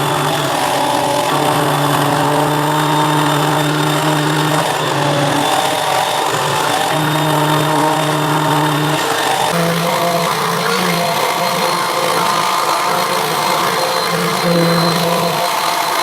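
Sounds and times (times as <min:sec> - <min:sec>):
orbit sander motor hum: 0:00.0 - 0:16.0
sander pad hissing on surface: 0:01.3 - 0:15.9.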